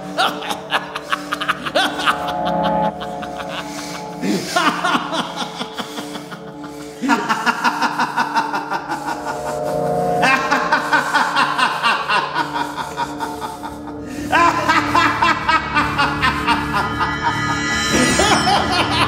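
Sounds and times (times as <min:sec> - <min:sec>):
dark background music: 0:00.0 - 0:19.0
man laughing: 0:00.0 - 0:19.0.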